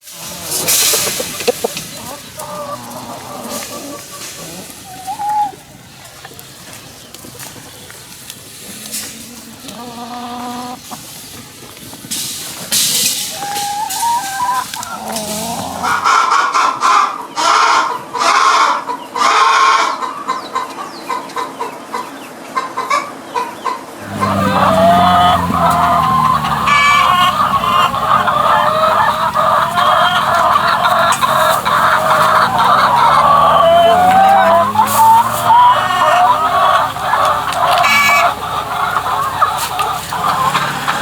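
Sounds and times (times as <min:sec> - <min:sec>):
chickens clucking and calling: 0:00.0 - 0:41.0.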